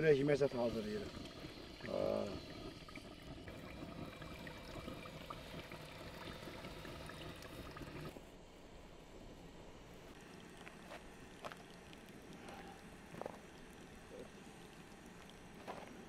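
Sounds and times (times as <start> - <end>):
water trickling: 0.0 - 8.2, 10.1 - 16.0.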